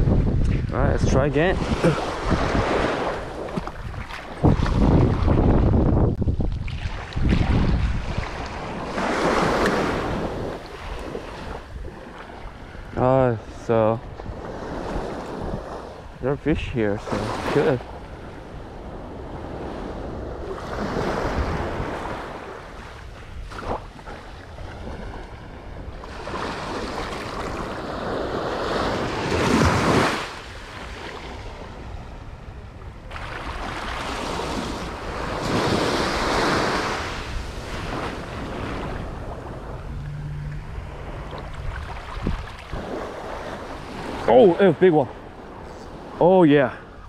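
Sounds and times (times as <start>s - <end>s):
wind on microphone: 0.0s - 46.2s
ocean surf breaking on beach: 0.8s - 5.8s, 6.8s - 32.1s, 33.0s - 47.0s.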